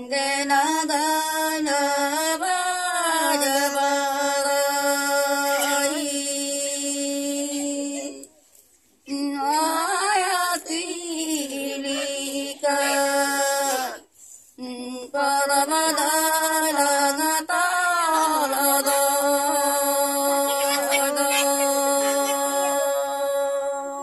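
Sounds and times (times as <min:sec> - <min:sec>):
women singing unaccompanied: 0:00.0 - 0:08.4, 0:09.0 - 0:24.0.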